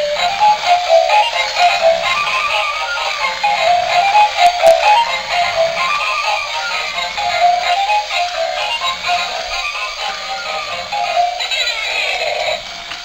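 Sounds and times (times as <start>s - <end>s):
tinny electronic toy tune: 0.0s - 12.6s.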